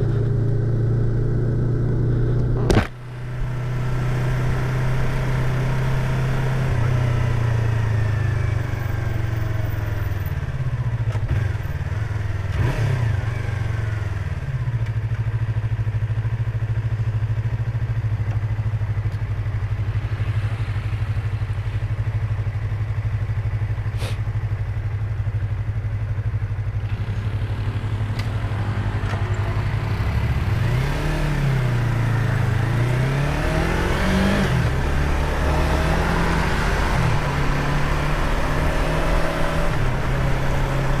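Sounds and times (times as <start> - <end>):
motorcycle engine and exhaust: 0.0 - 41.0.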